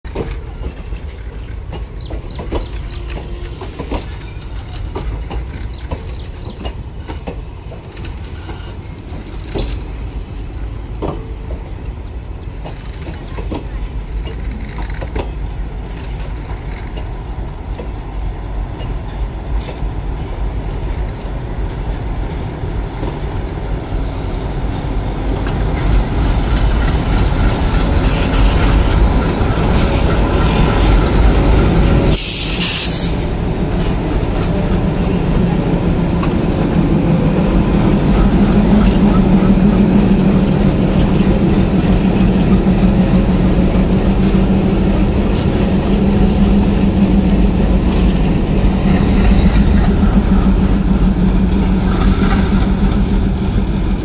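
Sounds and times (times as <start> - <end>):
low train rumble: 0.0 - 54.0
train wheels clicking over rail joints: 0.1 - 54.0.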